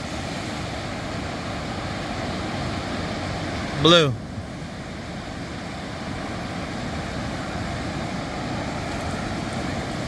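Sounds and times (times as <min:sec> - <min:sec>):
ocean surf: 0:00.0 - 0:10.0
wind: 0:00.0 - 0:10.0.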